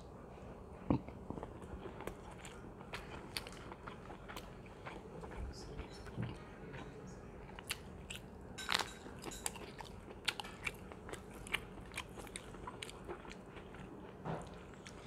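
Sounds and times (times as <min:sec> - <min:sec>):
crisp chewing: 0:00.8 - 0:15.0.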